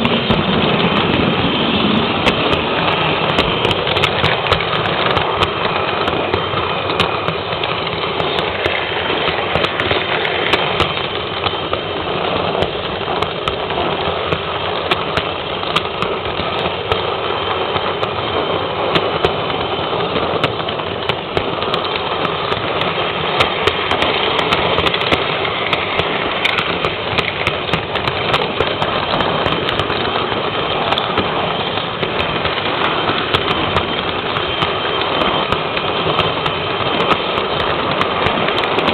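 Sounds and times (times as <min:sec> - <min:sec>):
model train whirring rattle: 0:00.0 - 0:38.9.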